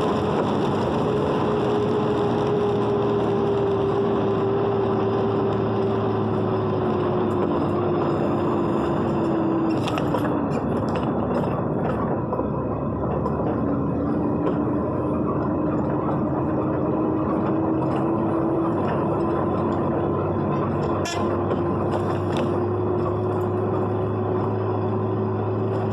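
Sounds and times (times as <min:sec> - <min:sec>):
road and rain noise: 0:00.0 - 0:25.9
vehicle engine drone: 0:00.0 - 0:25.9.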